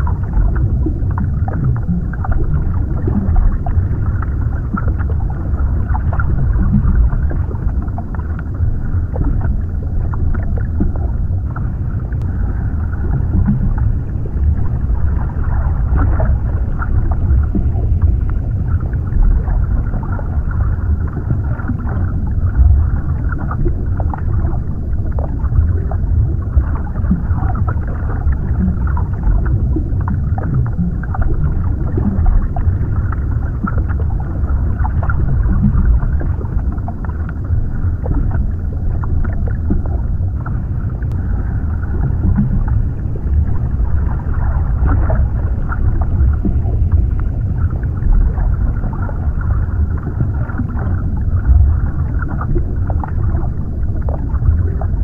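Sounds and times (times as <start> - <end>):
bubbling gurgles: 0.0 - 55.0
underwater rumble: 0.0 - 55.0.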